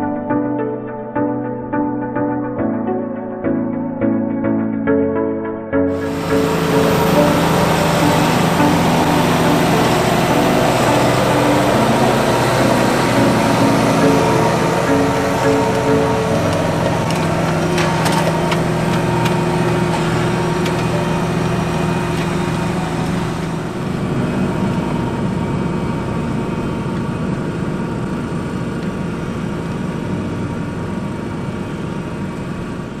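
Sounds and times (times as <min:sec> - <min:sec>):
tractor engine running under load: 0:05.9 - 0:33.0.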